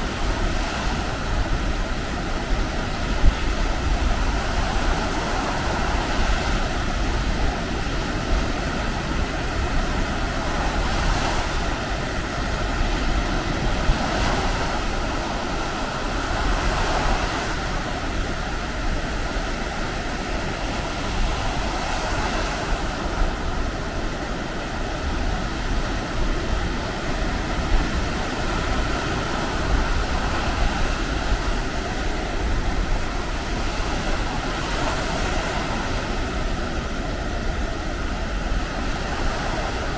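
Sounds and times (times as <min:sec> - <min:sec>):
surf breaking on beach: 0:00.0 - 0:39.9
wind rumbling on microphone: 0:00.0 - 0:39.9.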